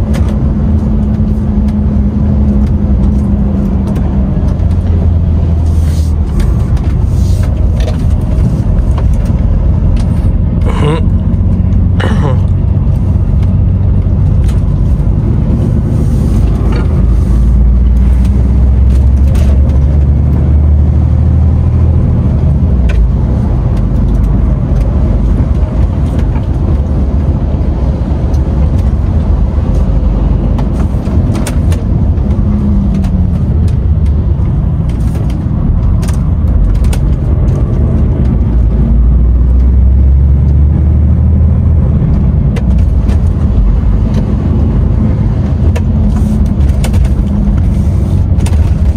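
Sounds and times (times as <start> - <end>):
road noise: 0.0 - 48.9
truck diesel engine drone: 0.0 - 48.9.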